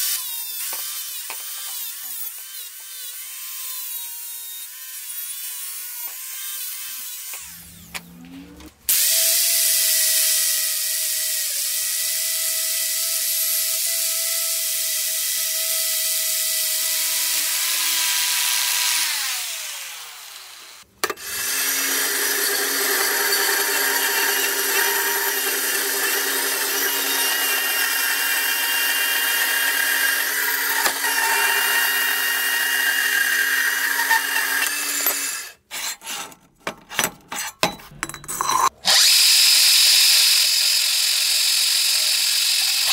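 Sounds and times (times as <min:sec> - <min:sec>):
power tool working metal: 0:00.0 - 0:36.3, 0:37.0 - 0:42.9.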